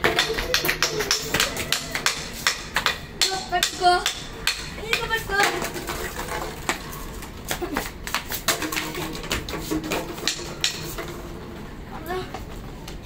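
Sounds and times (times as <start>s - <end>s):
sticks hitting plastic bottle: 0.0s - 11.1s
sticks knocking on concrete: 0.0s - 11.2s.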